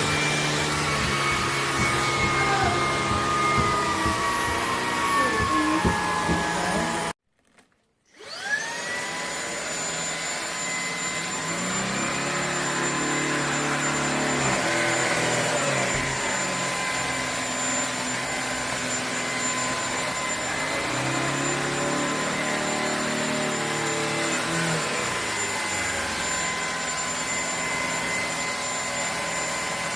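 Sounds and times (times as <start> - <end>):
vacuum motor whine: 0.0 - 7.2, 8.1 - 29.9.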